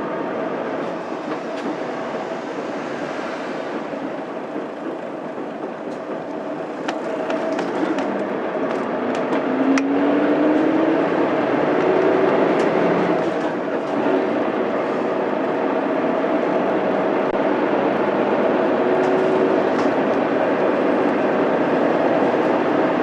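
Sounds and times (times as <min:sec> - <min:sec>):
bus engine and road drone: 0:00.0 - 0:23.0.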